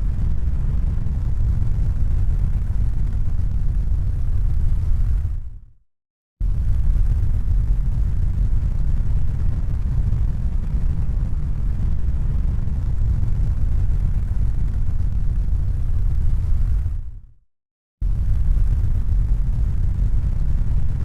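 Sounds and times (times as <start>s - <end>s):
deep rumbling noise: 0.0s - 5.7s, 6.4s - 17.2s, 18.0s - 21.0s.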